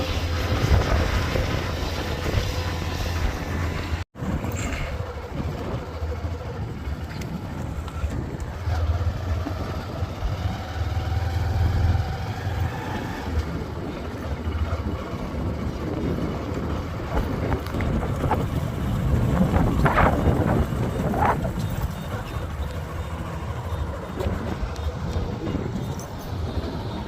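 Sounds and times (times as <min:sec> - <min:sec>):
vehicle engine rumble: 0:00.0 - 0:27.0
wind noise on microphone: 0:00.0 - 0:27.0.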